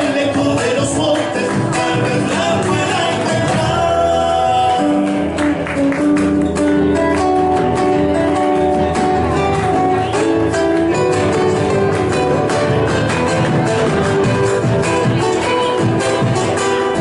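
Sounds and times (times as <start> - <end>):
strummed acoustic guitars: 0.0 - 17.0.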